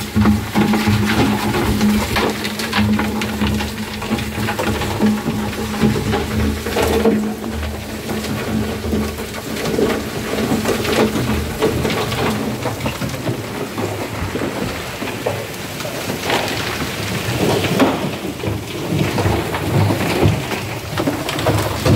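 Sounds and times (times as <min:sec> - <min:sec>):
debris spattering on metal drum: 0:00.0 - 0:21.9.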